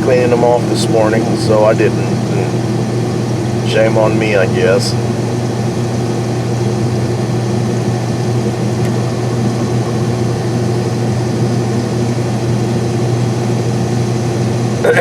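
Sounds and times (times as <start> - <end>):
combine engine drone in cab: 0.0 - 15.0.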